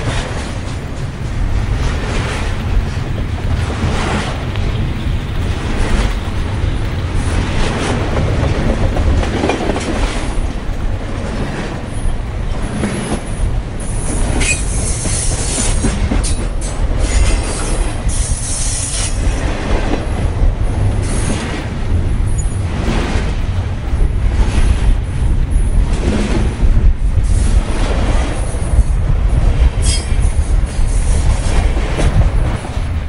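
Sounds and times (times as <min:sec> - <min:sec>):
model trains rumbling: 0:00.0 - 0:33.0
wheels clicking on rails: 0:00.0 - 0:33.0.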